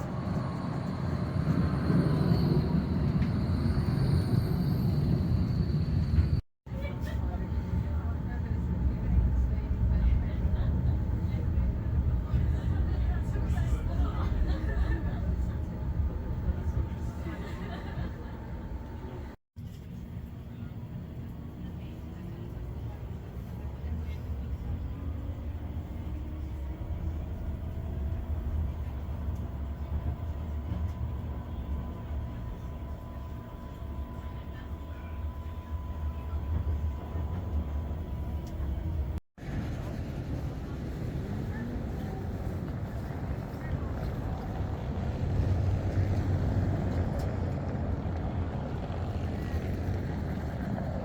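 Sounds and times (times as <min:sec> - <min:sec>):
tram rumbling on track: 0:00.0 - 0:51.0.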